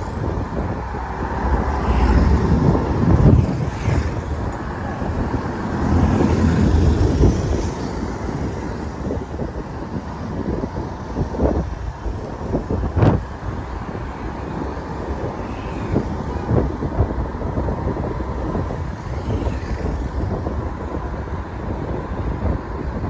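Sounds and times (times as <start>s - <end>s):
passing vehicles road noise: 0.0s - 23.0s
wind rumbling on microphone: 0.0s - 23.0s.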